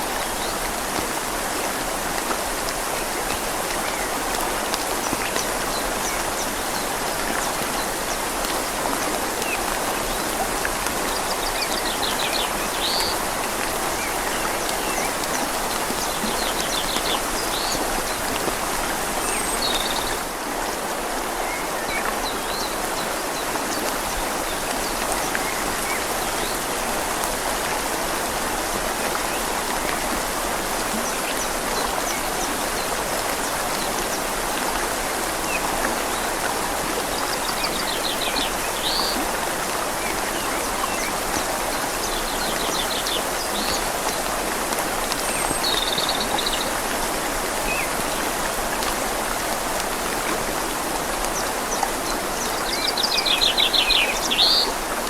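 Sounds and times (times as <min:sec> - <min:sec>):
rain falling on leaves: 0:00.0 - 0:55.0
river flowing: 0:00.0 - 0:55.0.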